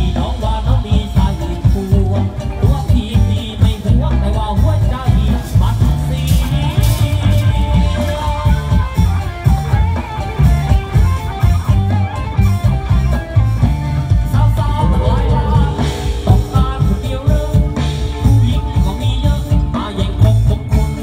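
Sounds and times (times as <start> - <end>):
guitar music with steady beat: 0.0 - 21.0.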